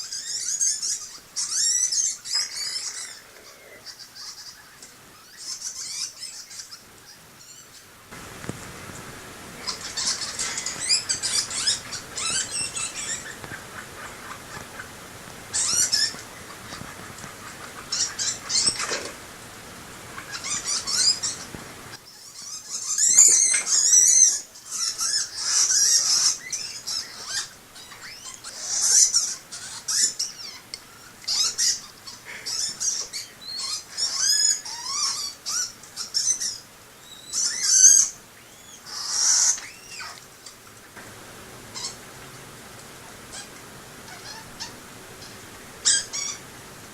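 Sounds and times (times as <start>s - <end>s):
rodents squeaking and chirping: 0.0s - 46.5s.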